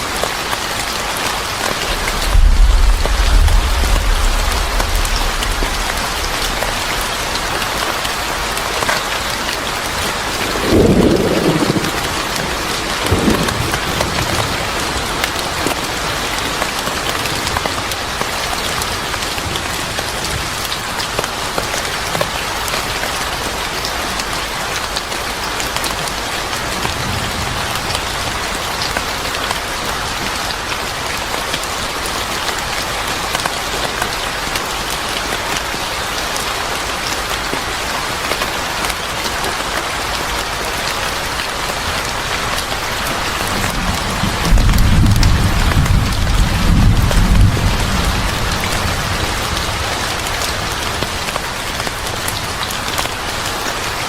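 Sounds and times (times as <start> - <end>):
rain falling on a surface: 0.0 - 54.0.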